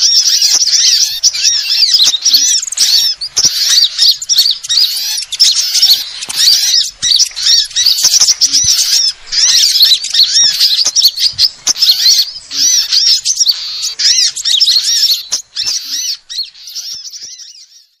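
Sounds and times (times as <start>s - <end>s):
chorus of songbird chirps: 0.0s - 18.0s.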